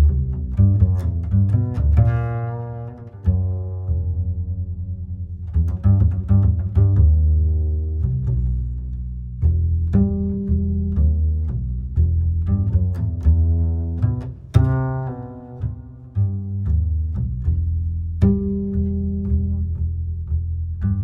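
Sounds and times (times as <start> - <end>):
low strings bass line: 0.0 - 21.0.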